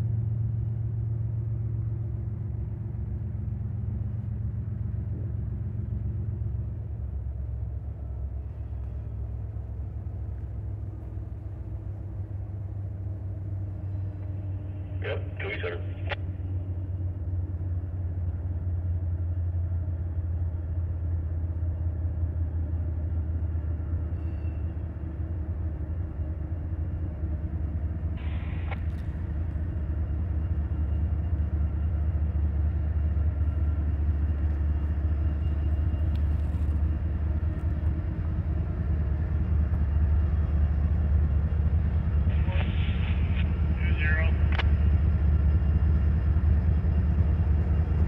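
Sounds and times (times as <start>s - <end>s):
locomotive engine rumble: 0.0s - 48.0s.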